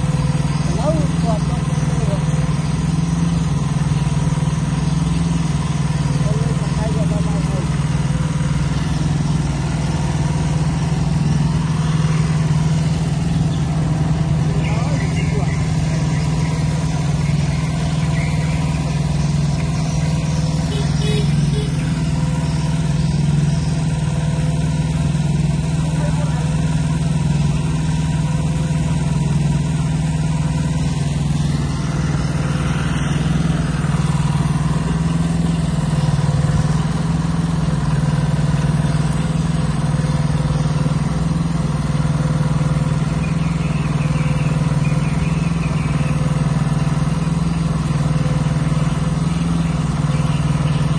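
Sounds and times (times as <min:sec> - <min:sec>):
engine running steadily: 0:00.0 - 0:50.9.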